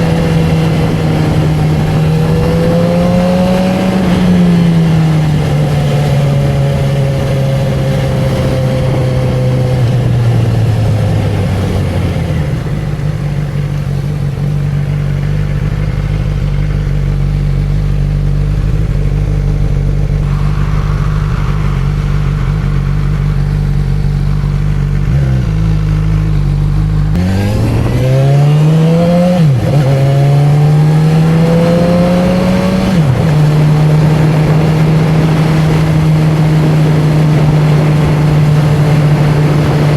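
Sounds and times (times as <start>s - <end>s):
gear upshifts: 0.0s - 39.9s
motorcycle engine and exhaust: 0.0s - 39.9s.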